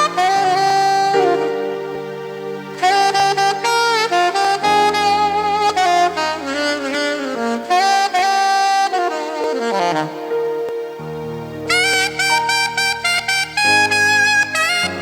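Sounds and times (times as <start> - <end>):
held chords: 0.0 - 15.0
saxophone melody: 0.0 - 15.0.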